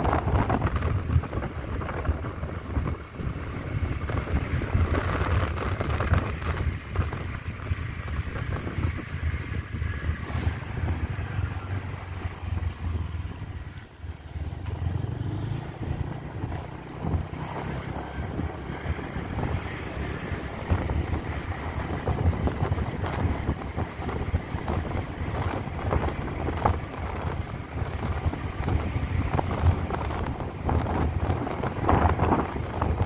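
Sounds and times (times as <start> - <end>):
motorbike engine and road rumble: 0.0 - 33.0
wind buffeting microphone: 0.0 - 33.0.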